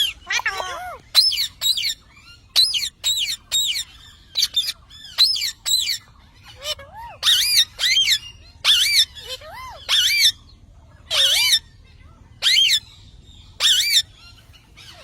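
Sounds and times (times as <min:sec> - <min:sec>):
parrot squawking: 0:00.0 - 0:11.8, 0:12.4 - 0:12.9, 0:13.6 - 0:15.0.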